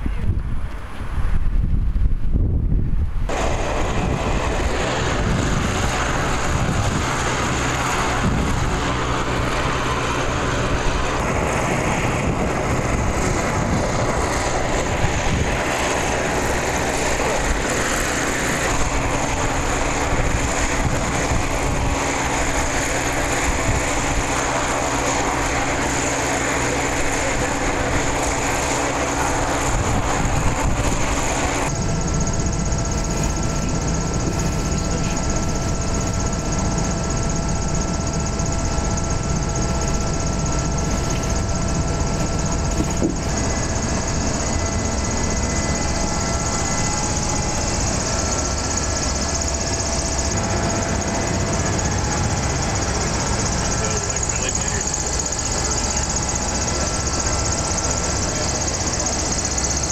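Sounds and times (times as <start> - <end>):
piston engines and propellers: 0.0 - 59.9
cabin drone: 3.1 - 59.9
thin whining tones: 3.3 - 59.9.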